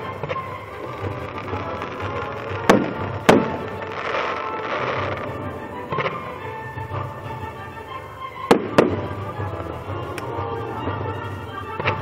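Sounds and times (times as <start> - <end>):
firework shells bursting: 0.0 - 7.0, 8.4 - 12.0
firework crackling: 0.0 - 12.0
music: 0.0 - 12.0.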